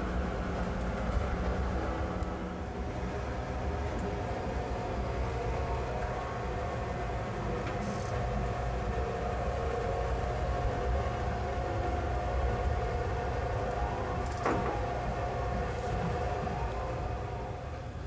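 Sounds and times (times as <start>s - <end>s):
steady hum: 0.0s - 18.0s
train low rumble: 0.0s - 18.0s.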